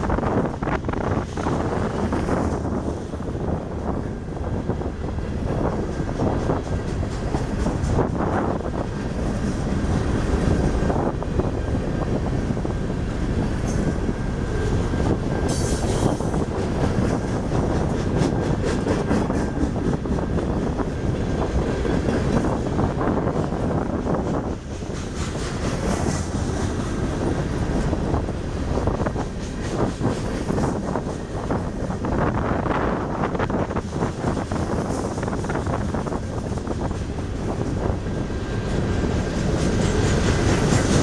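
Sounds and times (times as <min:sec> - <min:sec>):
rail clicks: 0:00.0 - 0:41.0
train wheels rumbling on rail: 0:00.0 - 0:41.0.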